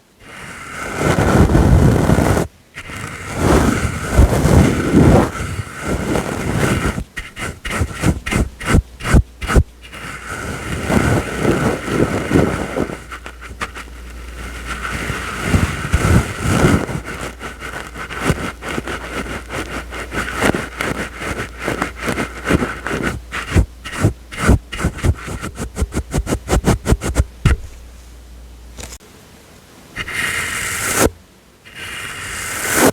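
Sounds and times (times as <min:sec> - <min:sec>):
brush strokes on microphone: 0:00.2 - 0:28.2, 0:30.0 - 0:32.9.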